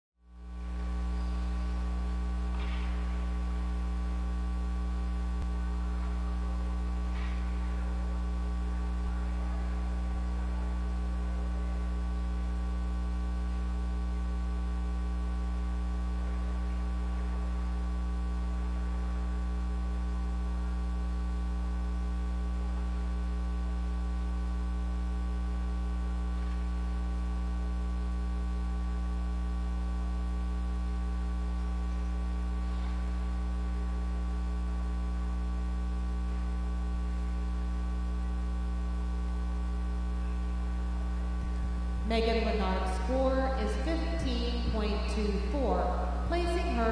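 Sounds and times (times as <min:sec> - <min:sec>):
electrical mains hum: 0:00.2 - 0:46.9.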